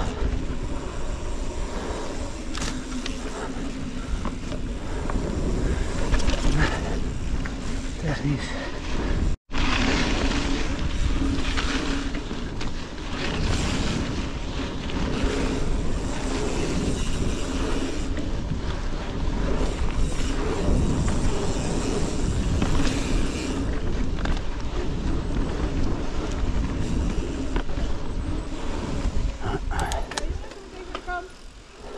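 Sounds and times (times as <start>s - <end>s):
bike tyres on dirt: 0.0s - 31.9s
wind noise on microphone: 0.0s - 31.9s.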